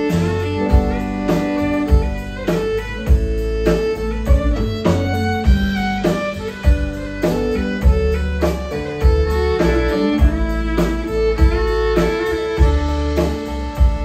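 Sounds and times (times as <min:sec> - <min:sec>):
bass guitar: 0:00.0 - 0:14.0
electric guitar: 0:00.0 - 0:14.0
fiddle lead line: 0:00.0 - 0:14.0
steady drum beat: 0:00.0 - 0:14.0.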